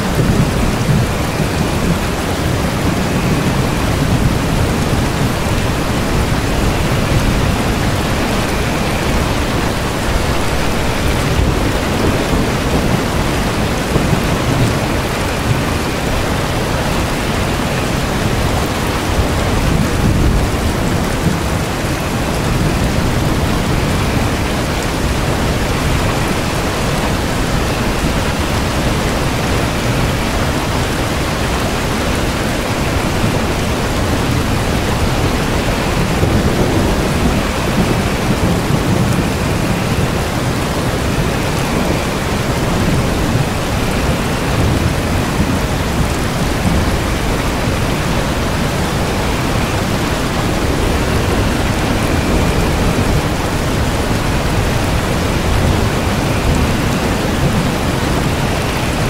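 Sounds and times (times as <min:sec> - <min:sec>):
heavy rain: 0:00.0 - 0:59.0
low rumble of thunder: 0:00.0 - 0:59.0.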